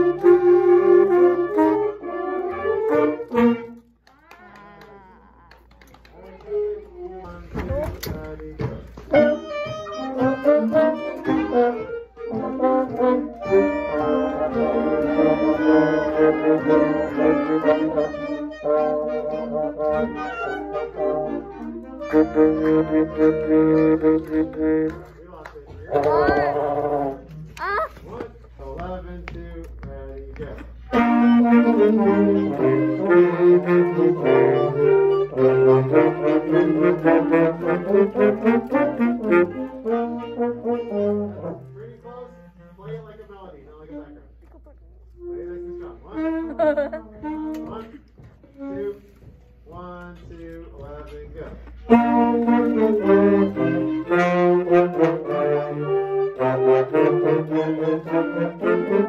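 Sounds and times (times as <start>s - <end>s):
school band playing: 0.0s - 4.9s, 5.7s - 29.1s, 30.6s - 59.0s.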